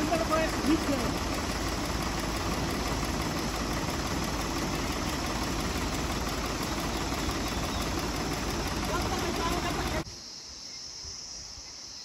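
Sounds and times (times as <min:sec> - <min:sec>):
engine rumbling: 0:00.0 - 0:10.1.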